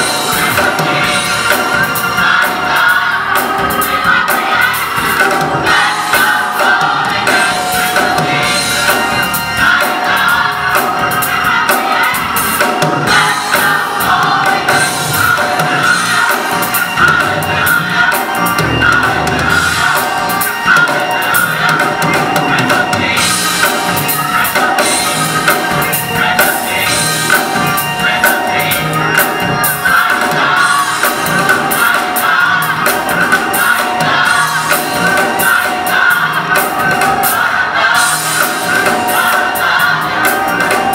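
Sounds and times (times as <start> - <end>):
gospel choir singing: 0.0 - 40.9.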